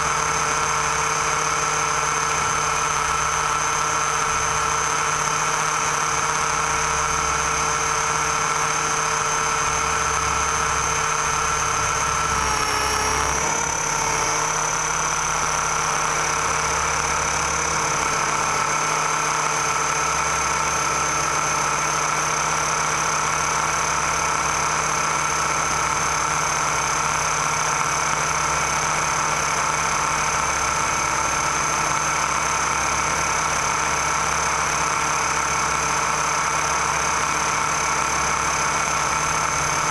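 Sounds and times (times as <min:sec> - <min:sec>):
model airplane motor whining: 0:00.0 - 0:39.9.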